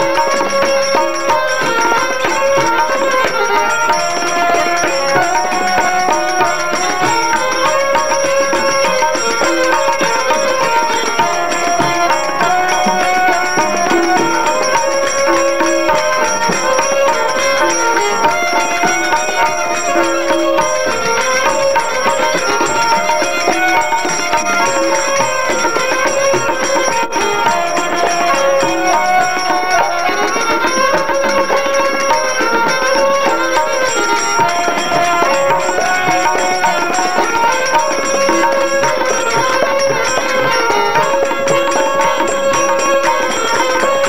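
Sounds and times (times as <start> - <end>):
harmonium: 0.0 - 44.0
tabla rhythm: 0.0 - 44.0
violin melody: 0.0 - 44.0.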